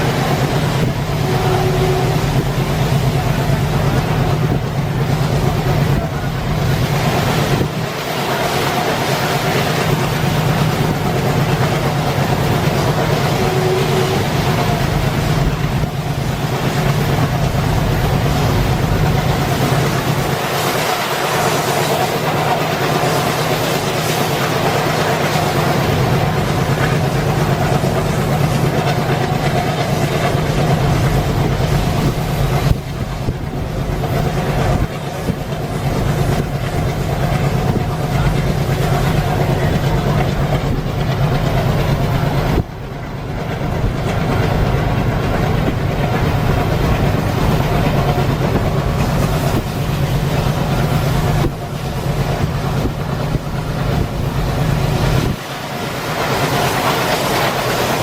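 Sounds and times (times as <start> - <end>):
diesel locomotive engine: 0.0 - 58.0
train rumbling on track: 0.0 - 58.0.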